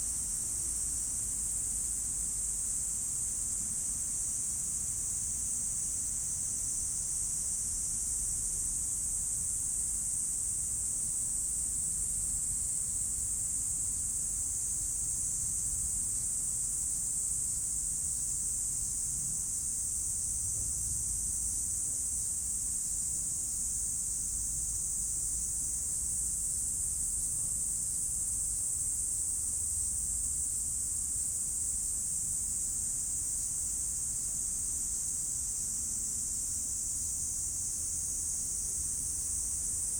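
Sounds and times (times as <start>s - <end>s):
insect chorus hiss: 0.0s - 39.9s.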